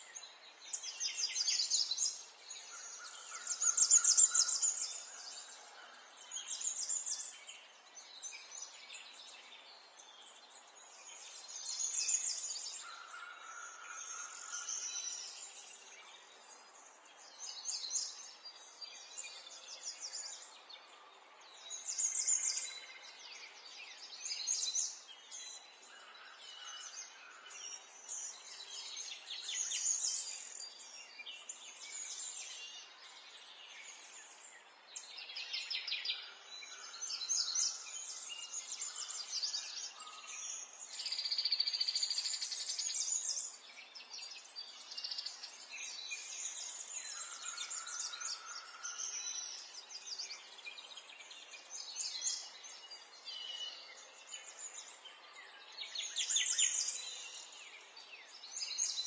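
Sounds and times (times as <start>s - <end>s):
songbirds chirping and warbling: 0.0s - 59.0s.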